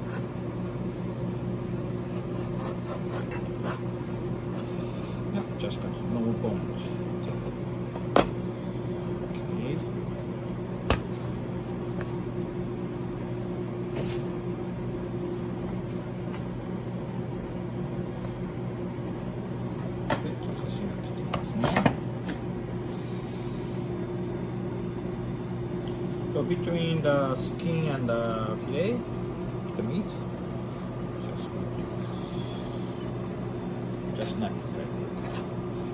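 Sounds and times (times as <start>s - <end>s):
kitchen machinery hum: 0.0s - 35.9s.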